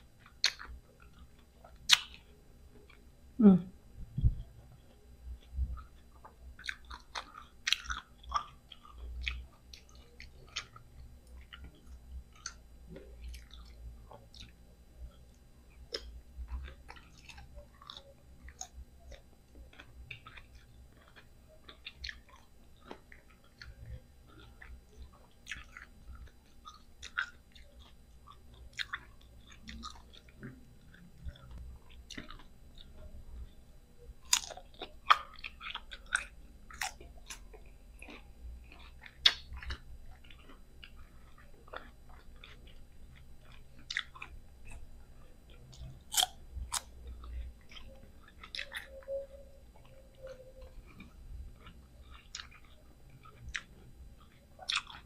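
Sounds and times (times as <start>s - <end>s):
person chewing crunchy fruit: 0.0s - 3.1s, 4.2s - 55.0s.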